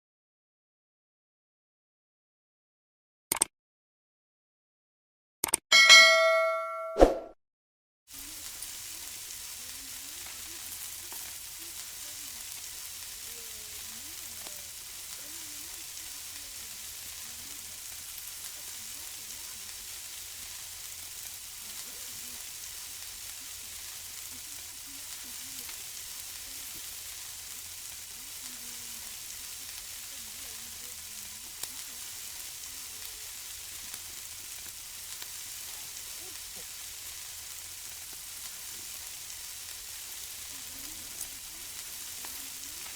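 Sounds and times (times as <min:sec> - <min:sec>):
food sizzling on a grill: 0:08.1 - 0:42.9.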